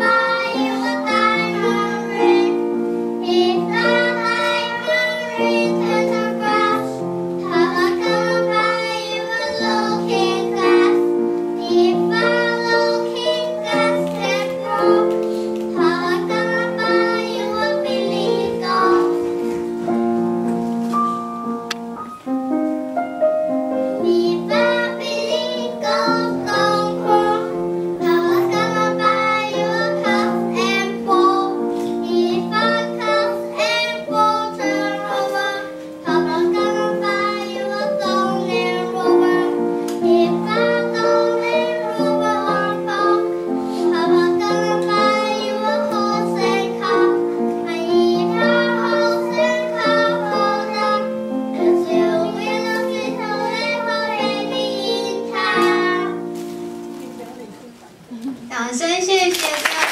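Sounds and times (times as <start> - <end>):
children singing: 0.0 - 19.7, 24.0 - 56.5
piano accompaniment: 0.0 - 58.2.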